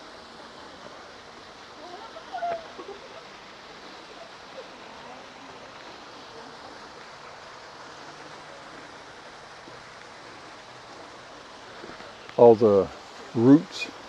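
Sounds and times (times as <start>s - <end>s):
waterfall splashing: 0.0s - 14.0s.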